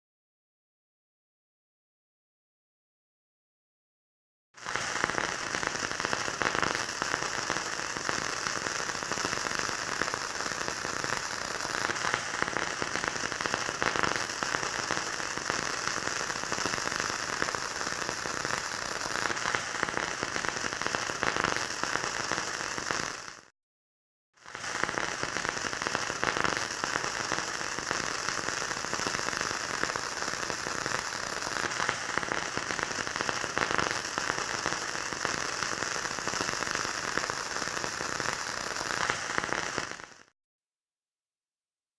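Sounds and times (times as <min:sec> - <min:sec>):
welding arc crackling and sizzling: 0:04.6 - 0:23.5, 0:24.4 - 0:40.3.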